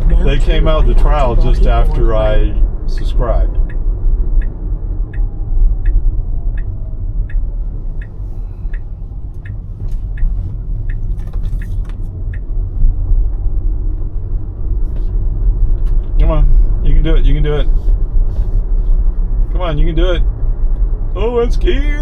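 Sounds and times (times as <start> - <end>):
turn signal ticking: 0.0 - 21.8
road and tyre rumble: 0.0 - 22.0.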